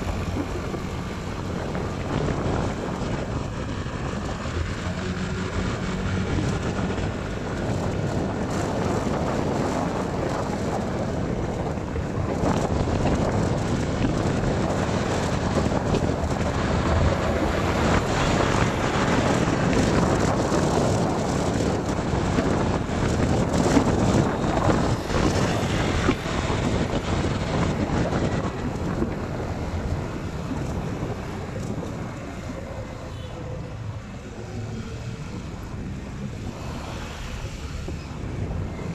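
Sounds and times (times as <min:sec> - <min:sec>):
vehicle engine and tyre noise: 0:00.0 - 0:38.9
wind rushing over microphone: 0:00.0 - 0:38.9.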